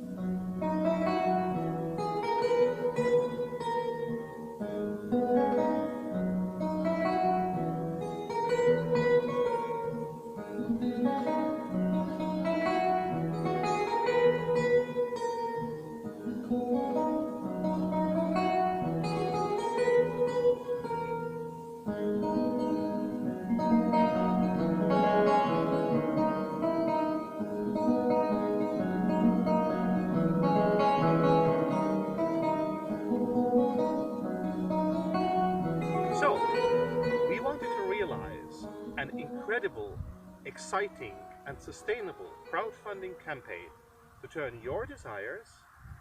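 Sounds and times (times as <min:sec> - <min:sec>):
acoustic guitar plucking: 0:00.0 - 0:44.5.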